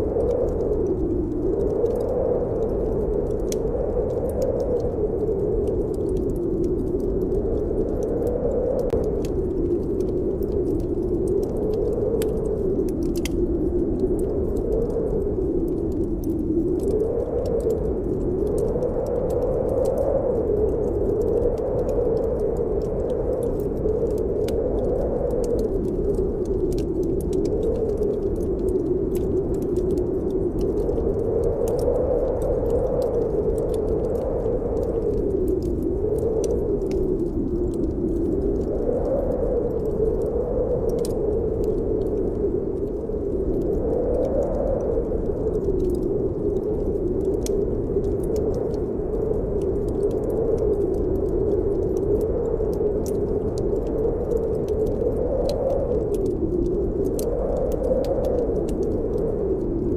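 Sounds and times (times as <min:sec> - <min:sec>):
snowstorm wind whooshing: 0:00.0 - 0:59.9
wood fire crackling: 0:00.0 - 0:59.9.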